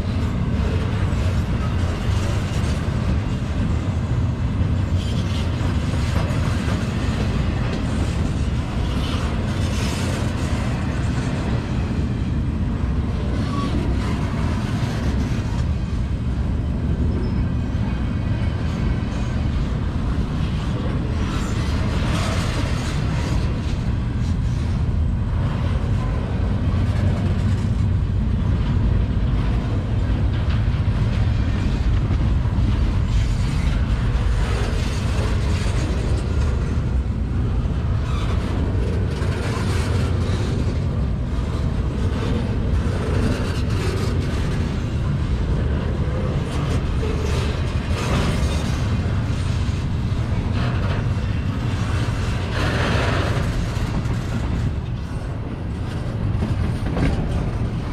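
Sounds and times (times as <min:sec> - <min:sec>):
freight cars rattling and clanking: 0:00.0 - 0:57.9
freight train wheels rumbling: 0:00.0 - 0:57.9.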